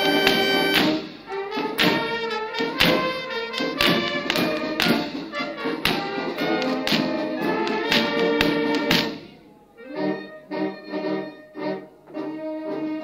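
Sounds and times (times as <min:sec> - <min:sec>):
brass music with steady beat: 0:00.0 - 0:13.0.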